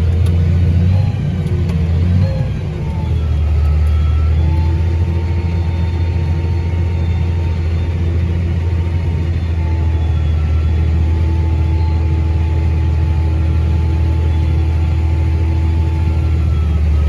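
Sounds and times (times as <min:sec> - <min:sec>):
combine harvester engine drone: 0:00.0 - 0:17.0
faint steady whines: 0:00.0 - 0:17.0.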